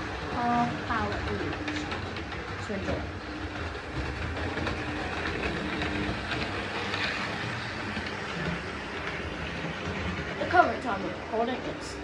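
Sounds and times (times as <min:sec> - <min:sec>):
model train wheels rattling: 0:00.0 - 0:12.0
small electric motors humming: 0:00.0 - 0:12.0.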